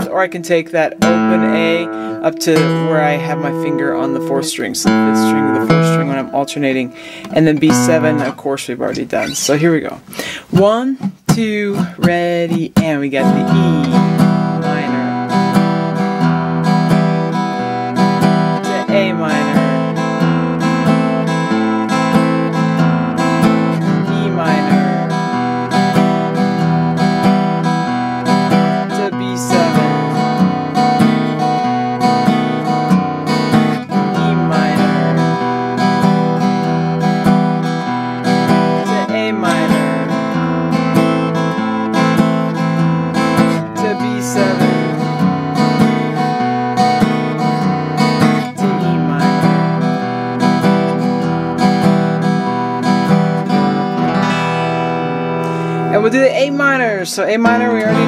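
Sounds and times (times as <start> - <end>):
acoustic guitar flatpicking: 0.0 - 58.0.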